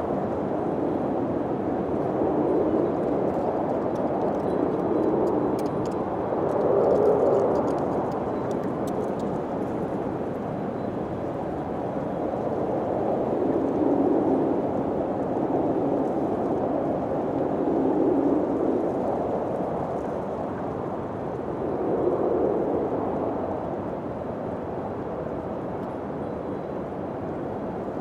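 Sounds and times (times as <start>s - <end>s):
wind blowing in gusts: 0.0s - 28.0s.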